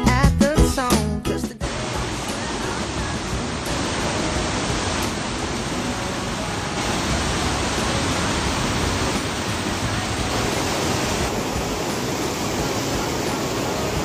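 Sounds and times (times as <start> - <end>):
white water rushing: 1.6 - 14.0.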